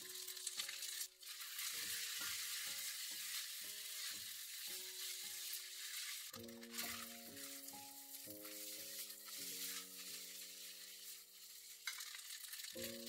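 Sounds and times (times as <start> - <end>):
fried rice sizzling in a wok: 0.0 - 13.0
soft background music: 0.0 - 13.0
stirring clicks: 0.0 - 13.0.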